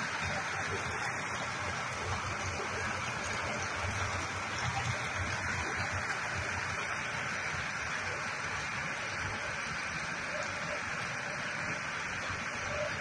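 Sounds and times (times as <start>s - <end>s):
electric motor low hum: 0.0s - 13.0s.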